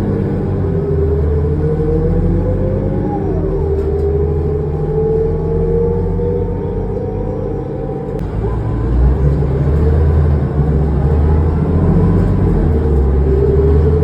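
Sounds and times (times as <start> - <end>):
bus engine drone with whine: 0.0 - 14.0.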